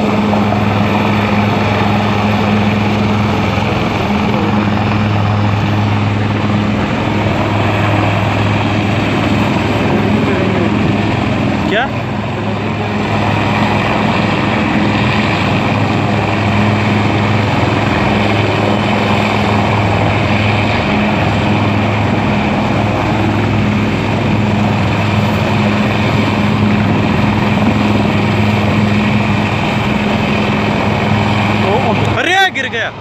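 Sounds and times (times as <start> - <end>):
helicopter engine and rotor: 0.0 - 33.0.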